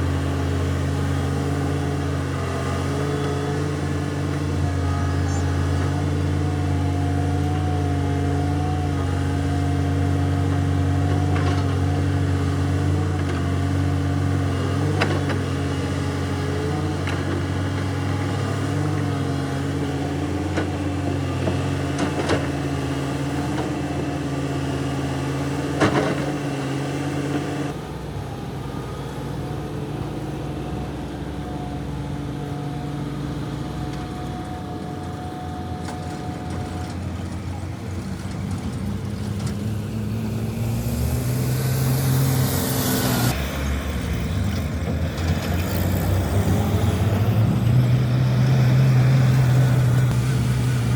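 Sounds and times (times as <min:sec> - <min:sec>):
construction machinery droning: 0:00.0 - 0:50.9.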